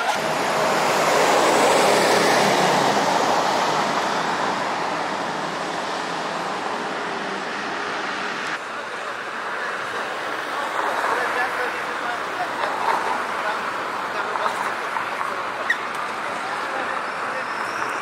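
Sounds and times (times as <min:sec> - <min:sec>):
bus passing by: 0:00.0 - 0:18.0
street traffic: 0:00.0 - 0:18.0.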